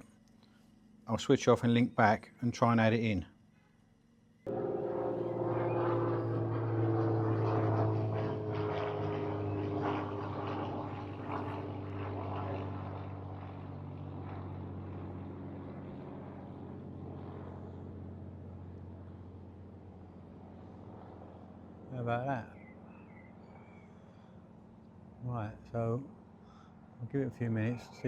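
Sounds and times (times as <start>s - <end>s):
propeller plane flying past: 3.4s - 28.0s.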